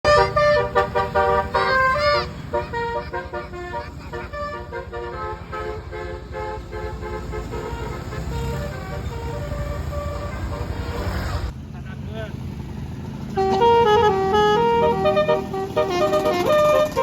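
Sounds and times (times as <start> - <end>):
musical air horn: 0.0 - 11.3, 13.4 - 17.0
low engine rumble: 0.0 - 17.0.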